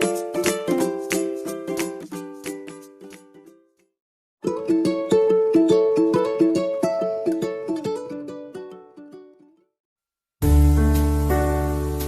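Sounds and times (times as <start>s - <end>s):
plucked string music: 0.0s - 9.7s, 10.4s - 12.0s.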